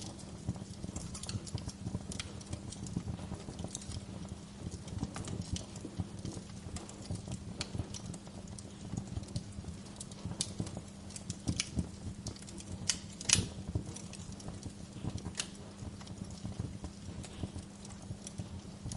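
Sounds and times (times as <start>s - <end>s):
low steady rumble: 0.0s - 18.9s
wood fire crackling: 0.0s - 18.9s.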